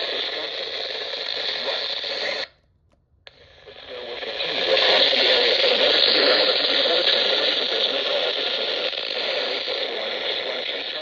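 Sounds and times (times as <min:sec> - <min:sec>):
radio static hiss: 0:00.0 - 0:02.6, 0:03.3 - 0:11.0.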